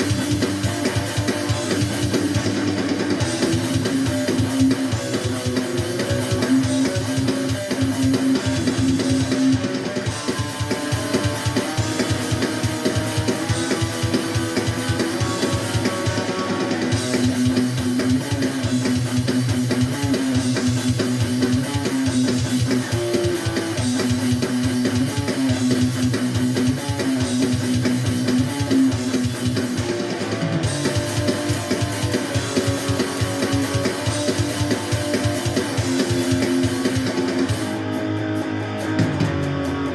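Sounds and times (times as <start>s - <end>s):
drum kit: 0.0s - 39.9s
strummed guitar: 0.0s - 39.9s.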